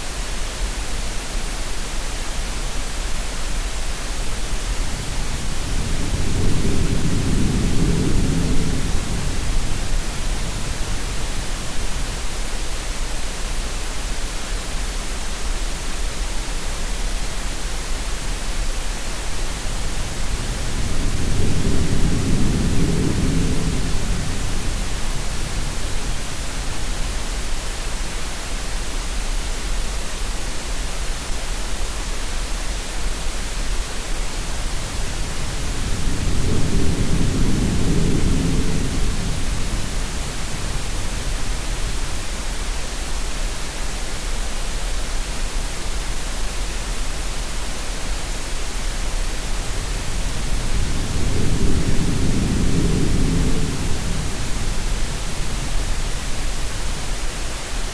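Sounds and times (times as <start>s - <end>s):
steady noise hiss: 0.0s - 57.9s.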